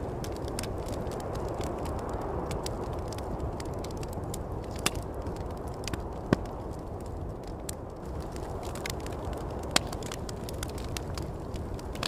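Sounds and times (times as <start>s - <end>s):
low rush of wind: 0.0s - 12.0s
wood fire crackling and popping: 0.0s - 12.0s.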